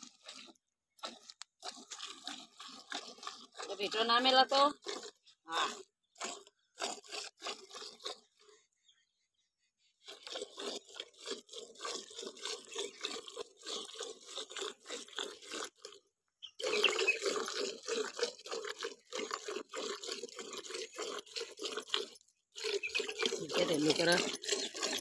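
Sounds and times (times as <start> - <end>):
milk squirting into a pail: 0.0 - 8.7, 10.0 - 25.0.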